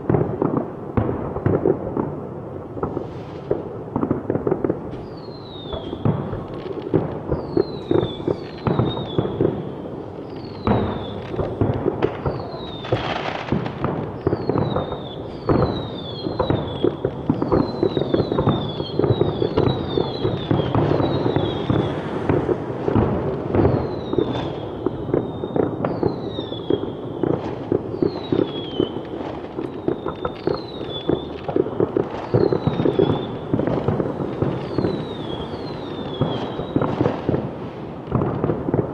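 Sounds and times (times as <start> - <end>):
fireworks crackling and banging: 0.0 - 38.9
fireworks whistles falling in pitch: 4.9 - 37.5.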